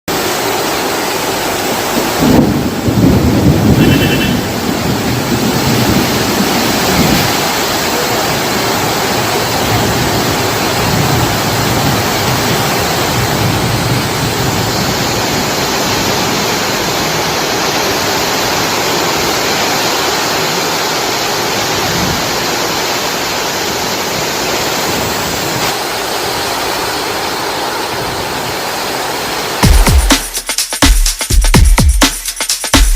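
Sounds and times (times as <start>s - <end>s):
heavy rain pouring: 0.1s - 32.9s.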